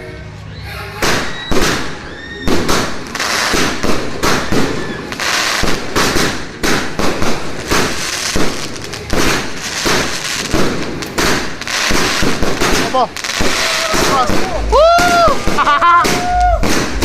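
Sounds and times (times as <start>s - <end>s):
fireworks bangs and crackling: 1.0s - 17.0s.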